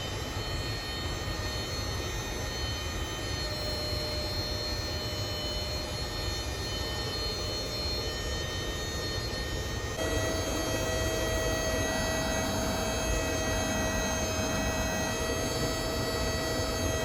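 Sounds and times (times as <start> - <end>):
faint steady high tones: 0.0 - 17.0.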